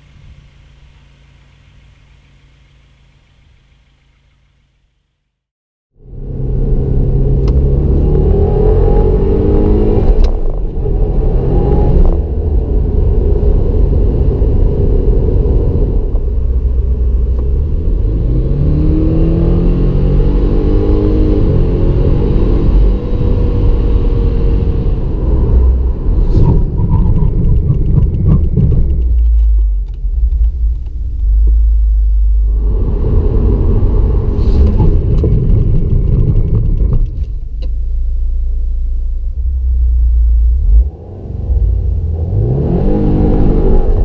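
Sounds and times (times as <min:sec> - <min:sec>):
car engine revving in cabin: 0:06.0 - 0:44.0.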